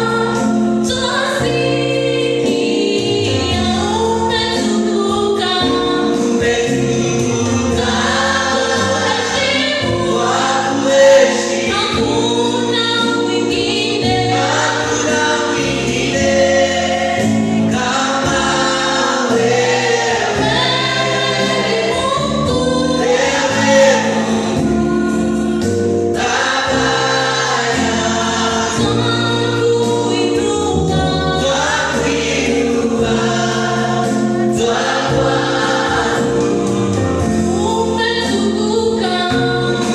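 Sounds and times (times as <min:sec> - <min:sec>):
gospel choir singing: 0:00.0 - 0:39.9
instrumental backing with bass: 0:00.0 - 0:39.9.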